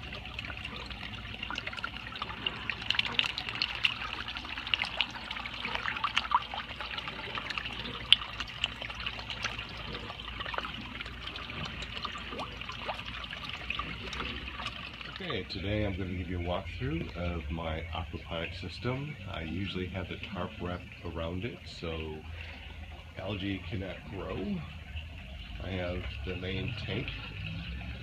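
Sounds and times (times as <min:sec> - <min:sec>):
droplets plinking on water: 0:00.0 - 0:28.0
water trickling into a tank: 0:00.0 - 0:28.0.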